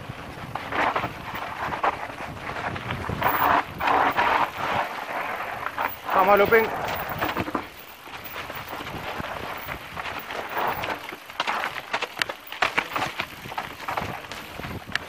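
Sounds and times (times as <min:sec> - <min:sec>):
bike knocking and rattling: 0:00.0 - 0:15.0
bike tyres on dirt: 0:00.0 - 0:15.0.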